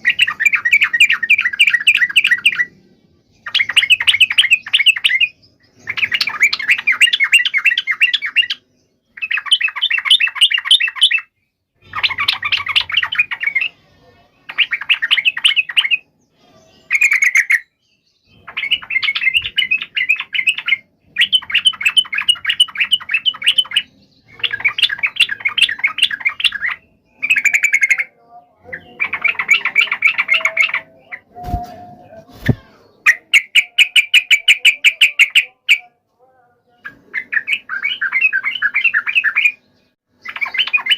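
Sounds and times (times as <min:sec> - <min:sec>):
bird chattering song: 0:00.0 - 0:36.0, 0:36.7 - 0:40.9.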